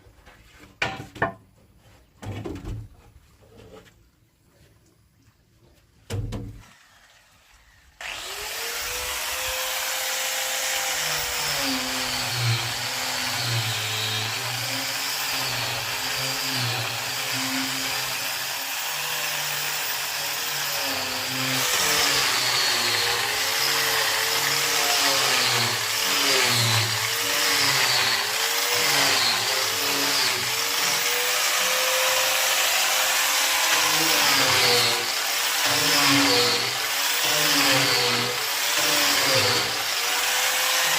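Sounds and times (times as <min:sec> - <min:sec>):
power tool cutting wood: 0:06.6 - 0:40.9.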